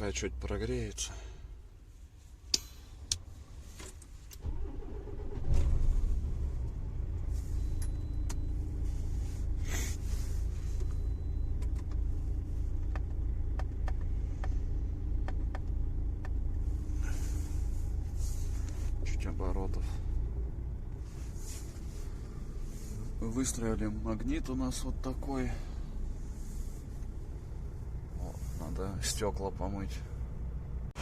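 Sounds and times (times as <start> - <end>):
diesel truck engine idling: 4.4 - 31.0.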